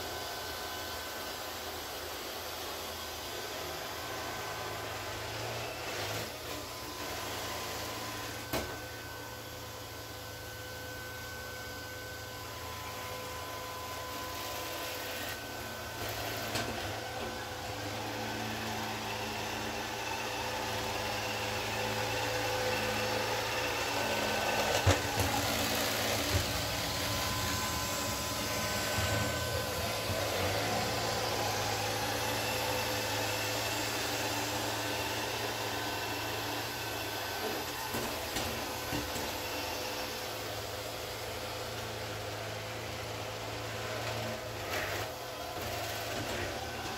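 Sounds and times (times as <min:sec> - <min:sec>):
robot vacuum humming: 0:00.0 - 0:46.9.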